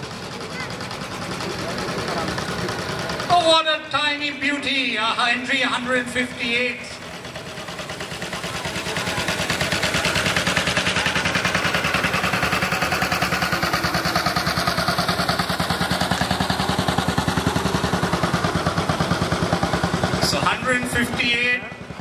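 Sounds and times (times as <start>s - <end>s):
scooter engine puttering: 0.0s - 22.0s.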